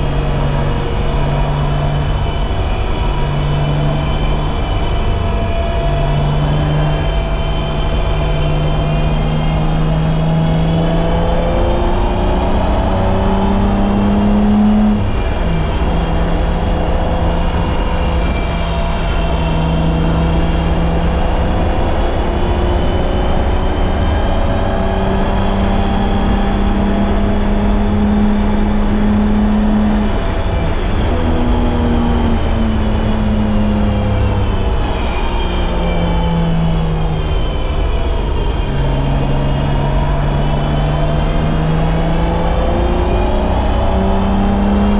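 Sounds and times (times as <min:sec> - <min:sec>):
car engine pulling under load: 0:00.0 - 0:44.9
road and wind noise: 0:00.0 - 0:44.9.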